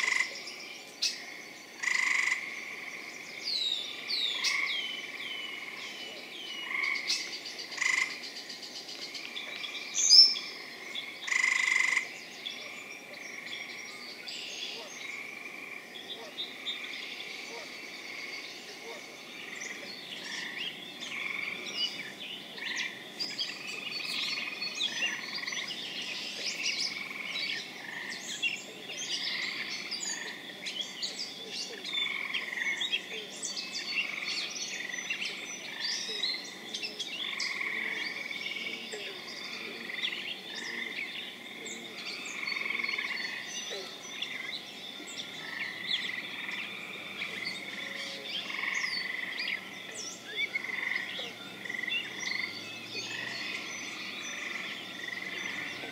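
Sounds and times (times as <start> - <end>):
frog chorus peeping: 0.0 - 55.9.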